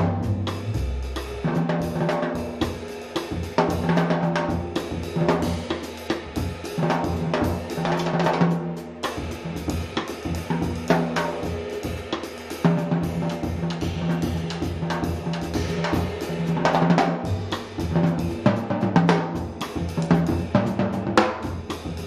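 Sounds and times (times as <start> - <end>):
jazz drum kit: 0.0 - 22.0.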